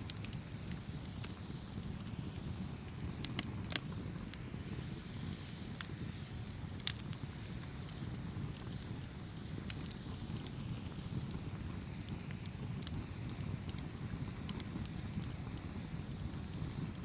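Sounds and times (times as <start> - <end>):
burning wood crackling and popping: 0.0 - 17.0
roar of campfire flames: 0.0 - 17.0.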